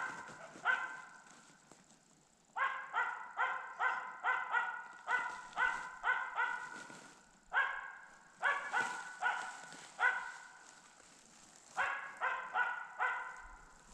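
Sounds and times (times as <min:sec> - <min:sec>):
dog barking: 0:00.0 - 0:01.2, 0:02.6 - 0:10.7, 0:11.8 - 0:13.9.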